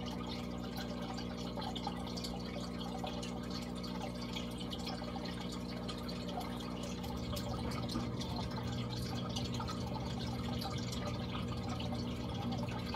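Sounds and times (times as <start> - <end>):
constant low hum: 0.0 - 12.9
water trickling and dripping: 0.0 - 12.9.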